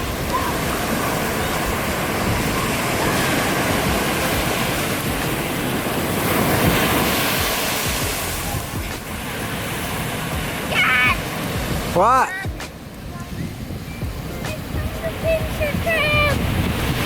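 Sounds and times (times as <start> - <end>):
ocean surf on beach: 0.0 - 17.0
wind buffeting microphone: 0.0 - 17.0.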